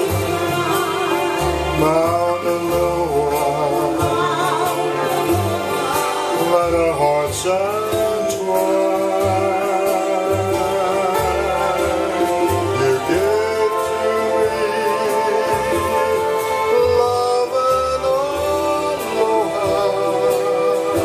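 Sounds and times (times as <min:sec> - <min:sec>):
acoustic guitar: 0:00.0 - 0:21.0
bass notes: 0:00.0 - 0:21.0
vibrato melody line: 0:00.0 - 0:21.0.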